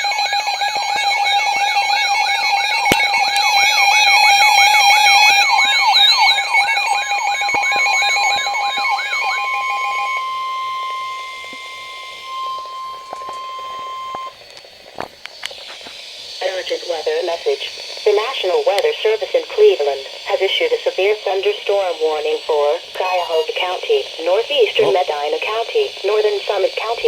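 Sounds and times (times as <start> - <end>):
electronic warbling siren: 0.0 - 14.8, 15.4 - 27.0
steady alarm tone: 0.0 - 27.0.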